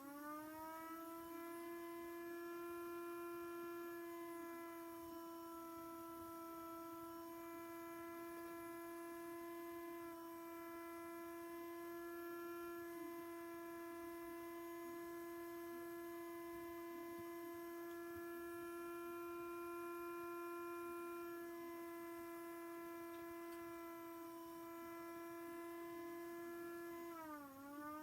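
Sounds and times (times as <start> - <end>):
electronic siren steady tone: 0.0 - 28.0.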